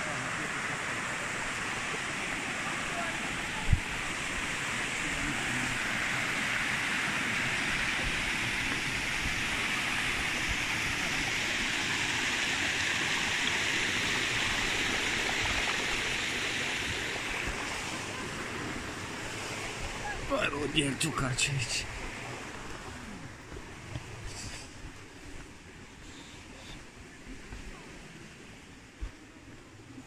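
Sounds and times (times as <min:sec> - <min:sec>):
stream rushing over weir: 0:00.0 - 0:29.9.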